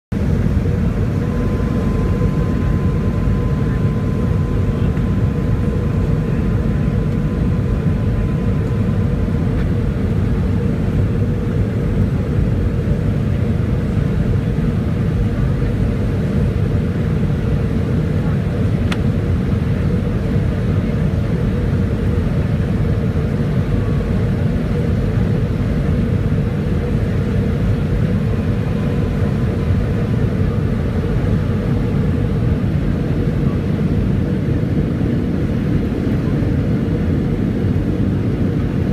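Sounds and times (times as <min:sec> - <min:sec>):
airplane cabin engine roar: 0:00.1 - 0:38.9.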